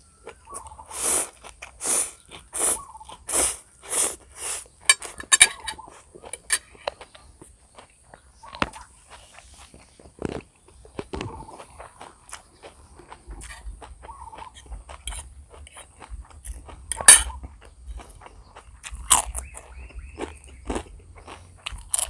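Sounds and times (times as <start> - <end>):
chewing food close up: 0.0 - 22.0.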